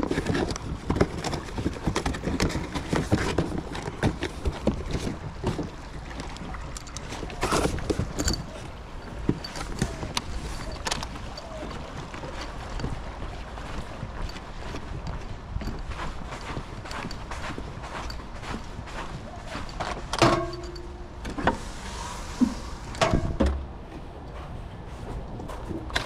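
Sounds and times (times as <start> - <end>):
footsteps on wooden deck: 0.0 - 26.0.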